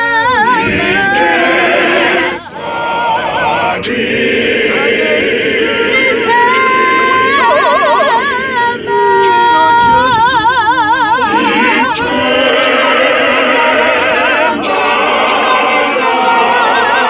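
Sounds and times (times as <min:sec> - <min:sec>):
men's choir singing a cappella: 0:00.0 - 0:17.0.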